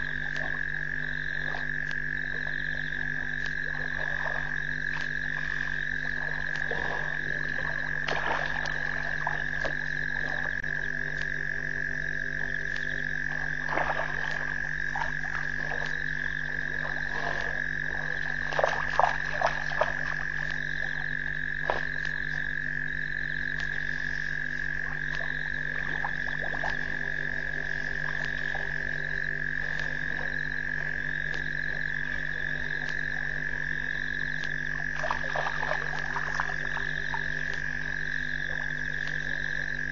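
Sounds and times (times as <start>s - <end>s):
frog croaks and clicks: 0.0s - 39.9s
frogs trilling: 0.0s - 39.9s.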